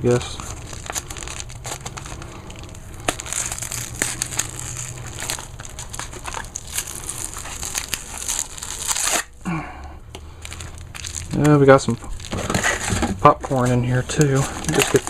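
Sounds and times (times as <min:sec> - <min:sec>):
packaging crinkling: 0:00.0 - 0:09.4, 0:10.2 - 0:15.0.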